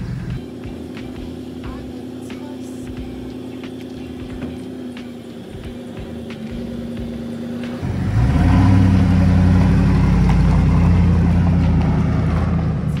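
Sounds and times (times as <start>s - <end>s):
van engine idling and accelerating: 0.0s - 13.0s.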